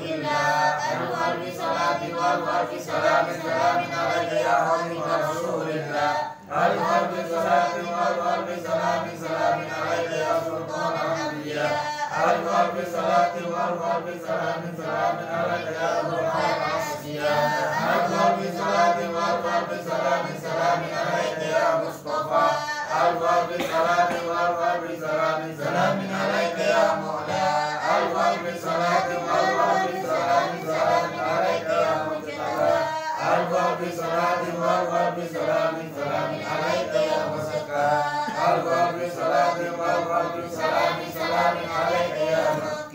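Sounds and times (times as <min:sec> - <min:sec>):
voices chanting in unison: 0:00.0 - 0:42.9.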